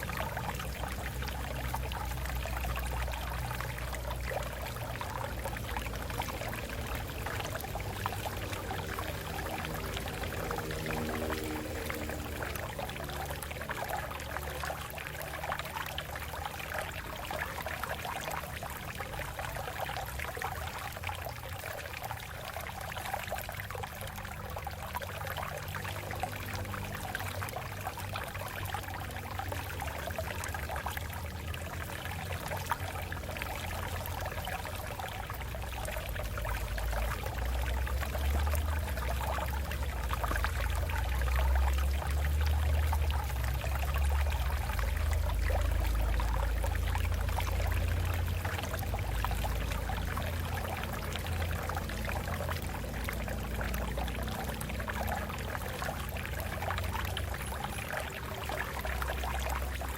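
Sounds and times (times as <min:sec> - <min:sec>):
water trickling over rocks: 0:00.0 - 0:59.9.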